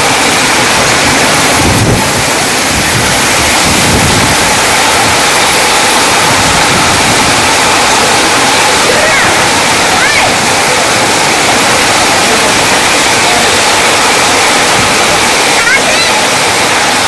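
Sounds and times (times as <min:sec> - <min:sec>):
wind buffeting microphone: 0:00.0 - 0:15.6
heavy rain pouring: 0:00.0 - 0:17.0.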